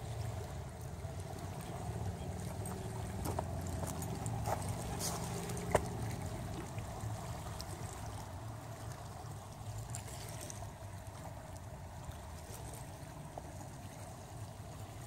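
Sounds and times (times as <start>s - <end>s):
low uneven rumble: 0.0s - 15.0s
waves lapping at shore: 0.0s - 15.0s.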